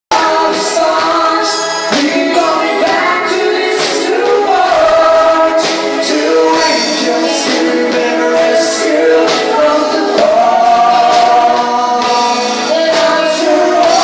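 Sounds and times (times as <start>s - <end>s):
electric guitars: 0.1s - 14.0s
live band playing pop song: 0.1s - 14.0s
woman and man singing duet: 0.1s - 14.0s.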